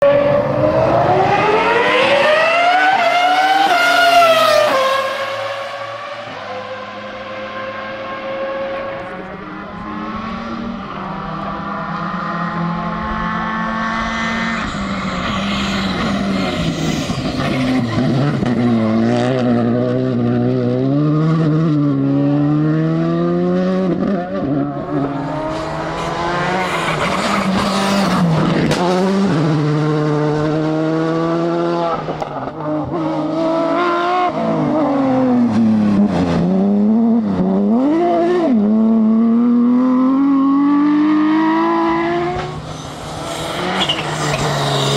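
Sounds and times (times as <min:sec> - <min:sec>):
rally car engine revving: 0:00.0 - 0:44.9.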